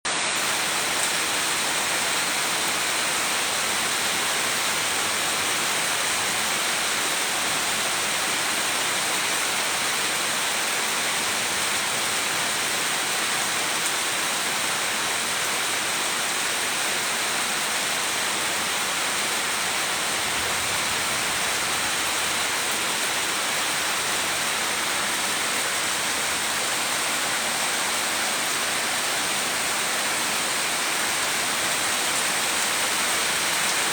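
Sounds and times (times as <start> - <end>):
rain falling in forest: 0.1 - 33.9.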